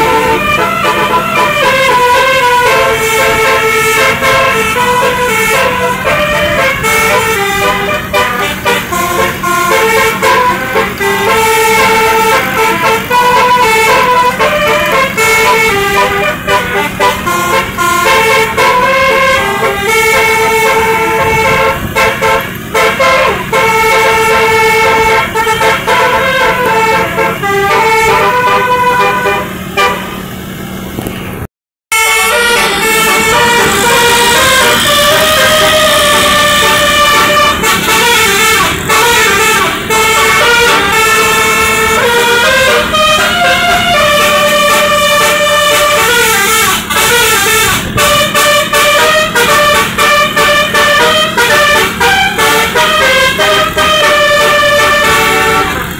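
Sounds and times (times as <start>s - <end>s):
bus horn playing a tune: 0.0s - 55.9s.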